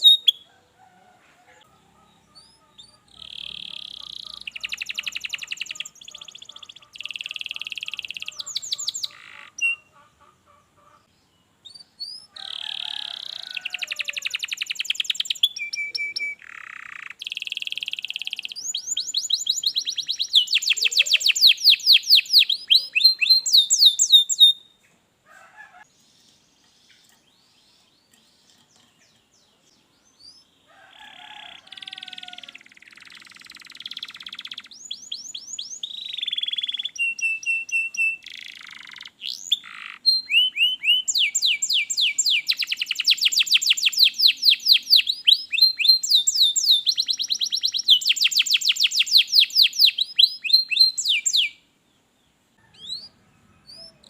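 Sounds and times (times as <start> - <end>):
canary singing trills: 0.0 - 0.6, 1.5 - 24.8, 25.7 - 51.7, 52.6 - 54.0.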